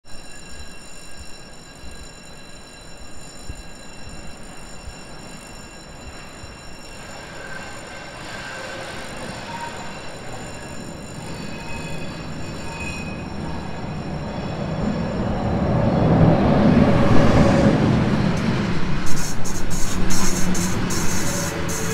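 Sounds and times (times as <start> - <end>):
train wheels squealing on rails: 0.0 - 21.9.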